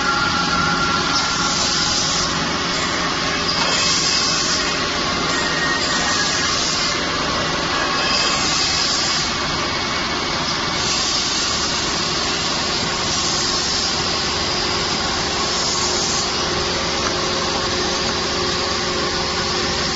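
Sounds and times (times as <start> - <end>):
machine hiss: 0.0 - 17.3
machine mechanical whirr: 0.0 - 19.9.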